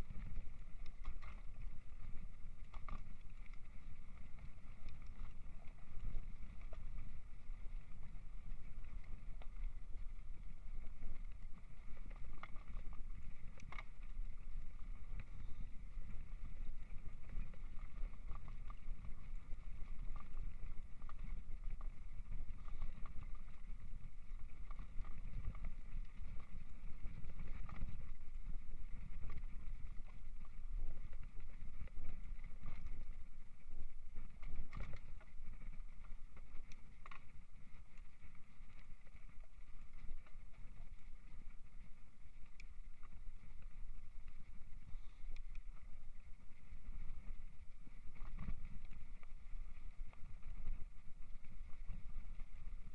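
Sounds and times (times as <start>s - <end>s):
wind on microphone: 0.0s - 52.9s.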